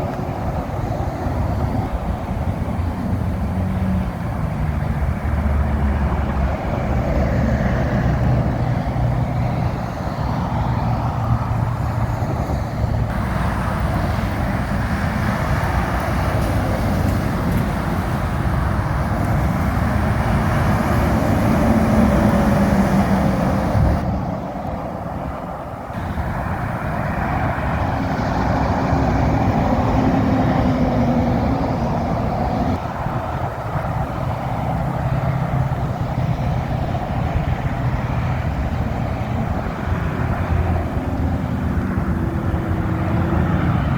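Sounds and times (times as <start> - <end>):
diesel truck engines: 0.0 - 43.9
highway traffic: 0.0 - 43.9
tyres on wet road: 0.0 - 43.9.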